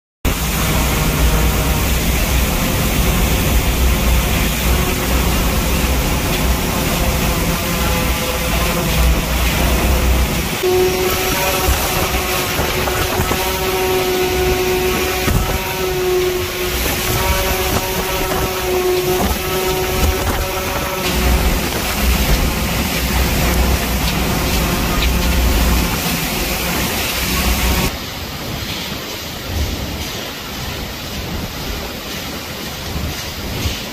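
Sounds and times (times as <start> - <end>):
hiss of wind-driven rain: 0.3 - 33.9
storm surf: 0.3 - 33.9.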